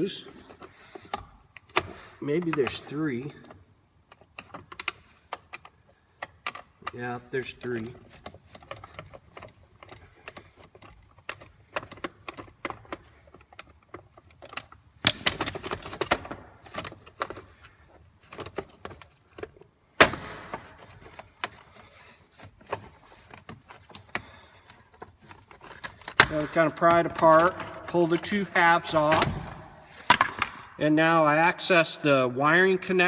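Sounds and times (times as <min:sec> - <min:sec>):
plastic clicks and rattles: 0:03.4 - 0:07.0, 0:07.7 - 0:30.6.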